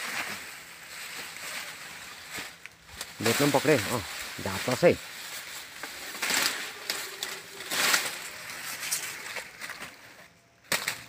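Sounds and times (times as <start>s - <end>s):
vines and leaves rustling: 0.0s - 11.0s.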